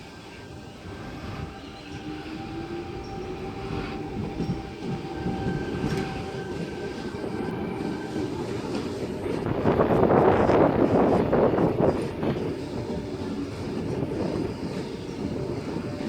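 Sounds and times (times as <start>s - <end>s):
thin steady whines: 0.0s - 16.0s
train rumble: 0.0s - 16.0s.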